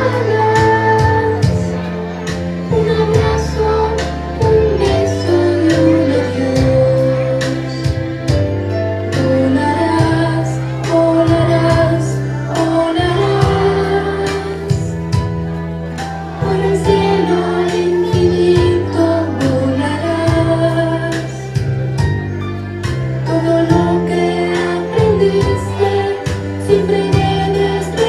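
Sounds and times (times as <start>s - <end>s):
woman singing: 0.0s - 1.8s, 2.7s - 7.9s, 9.2s - 15.0s, 16.4s - 21.5s, 23.3s - 28.0s
children singing along: 0.0s - 7.9s, 9.4s - 15.2s, 16.0s - 21.4s, 23.3s - 28.0s
bass notes: 0.0s - 28.0s.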